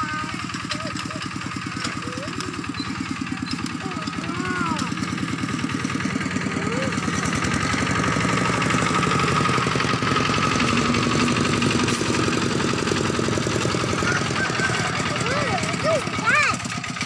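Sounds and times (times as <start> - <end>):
tractor engine chugging: 0.0 - 17.0.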